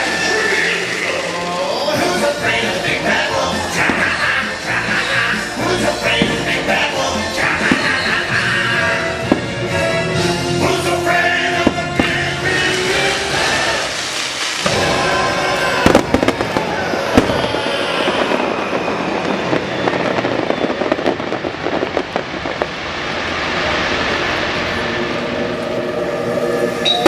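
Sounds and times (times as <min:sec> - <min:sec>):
firework crackling: 0:00.0 - 0:27.0
firework bangs: 0:02.0 - 0:27.0.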